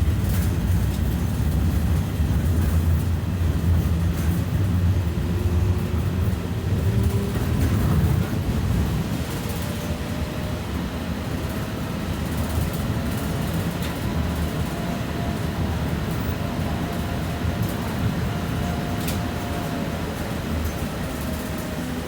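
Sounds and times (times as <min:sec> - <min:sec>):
tram rumble: 0:00.0 - 0:22.0
wheels clicking on rails: 0:00.0 - 0:22.0.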